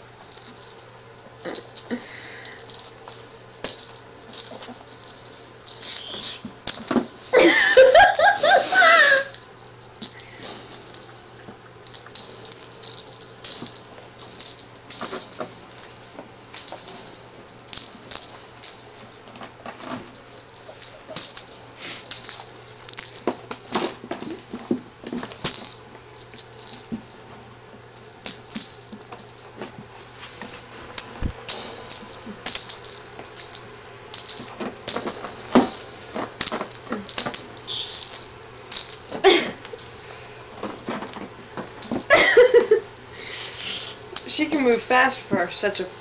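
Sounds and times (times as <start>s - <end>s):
small bells jingling: 0.0s - 30.6s, 31.2s - 46.0s.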